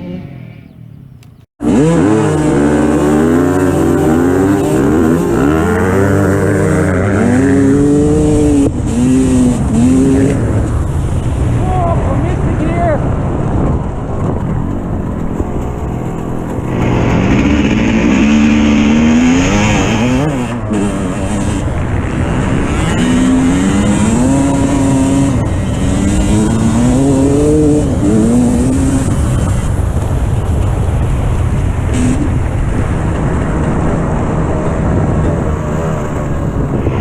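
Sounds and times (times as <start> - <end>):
dirt bike engine revving: 1.6 - 11.6, 14.6 - 37.0.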